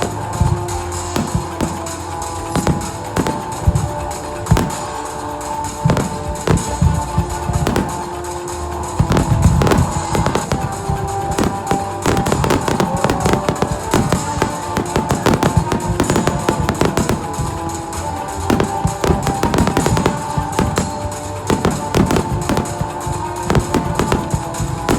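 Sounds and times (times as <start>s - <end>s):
background music with drums: 0.0s - 24.9s
fireworks bangs and crackles: 0.0s - 24.9s.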